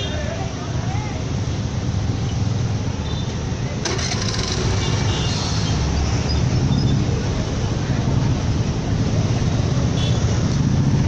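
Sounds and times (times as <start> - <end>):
motorcycle and scooter engines rumbling: 0.0 - 11.0.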